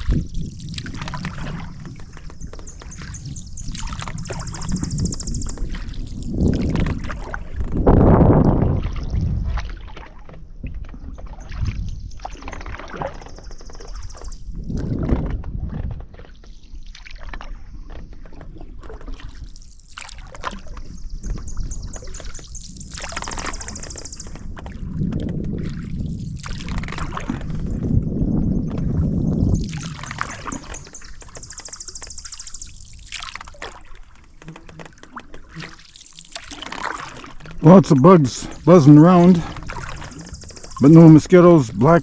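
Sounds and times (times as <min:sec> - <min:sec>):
water trickling off paddle: 0:00.0 - 0:07.9, 0:15.8 - 0:42.0
paddle strokes in water: 0:00.0 - 0:42.0.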